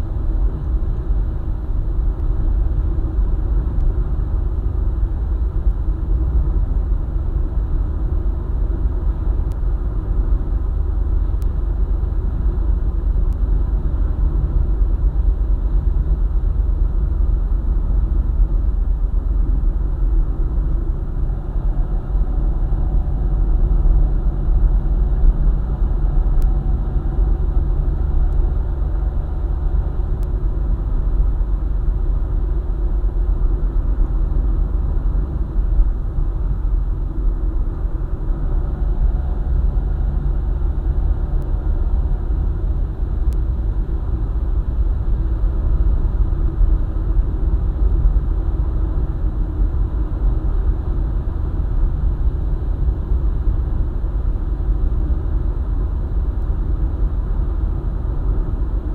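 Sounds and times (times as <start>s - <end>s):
car engine cruising: 0.0s - 58.9s
road and tyre noise: 0.0s - 58.9s.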